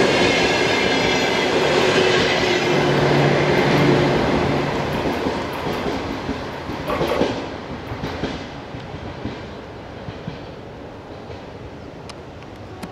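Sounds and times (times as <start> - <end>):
train wheels running on rails: 0.0 - 12.9.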